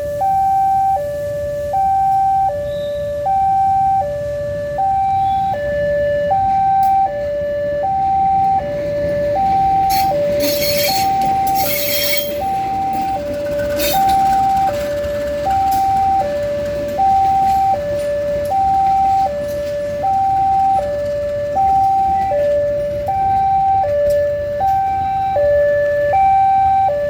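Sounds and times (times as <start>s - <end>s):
level crossing two-tone alarm: 0.0s - 27.0s.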